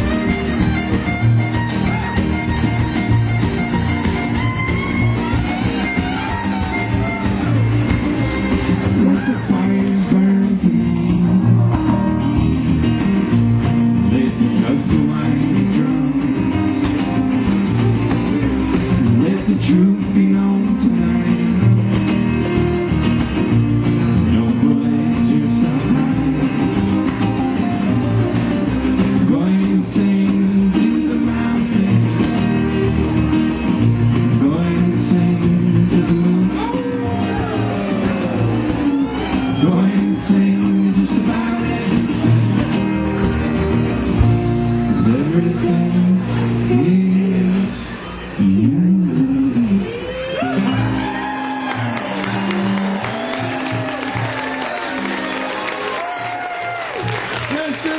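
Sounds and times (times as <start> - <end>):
fiddle: 0.0 - 48.8
strummed acoustic guitar: 0.0 - 57.9
upright double bass: 0.0 - 57.9.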